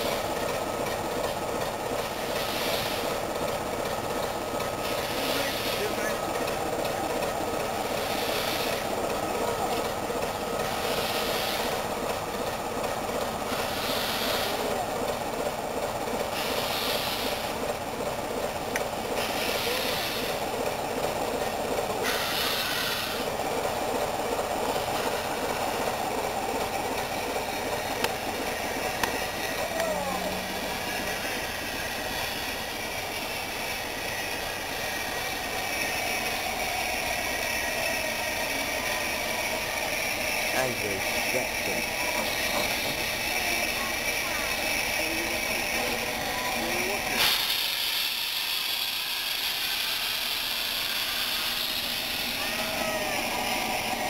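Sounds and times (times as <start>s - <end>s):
diesel locomotive idling rumble: 0.0s - 54.0s
steam locomotive hissing: 0.0s - 54.0s.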